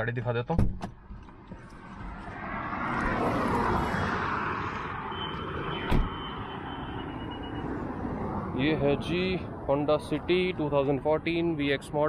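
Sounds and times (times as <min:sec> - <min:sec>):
vehicle passing on highway: 0:01.1 - 0:12.0.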